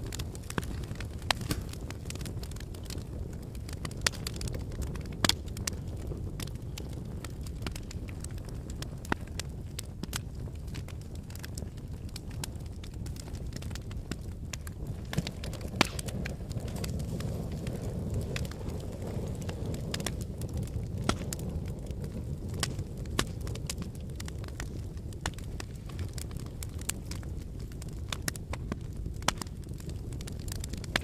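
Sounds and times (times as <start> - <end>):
fire burning in fireplace: 0.0 - 31.0
fire crackling and popping: 0.0 - 31.0.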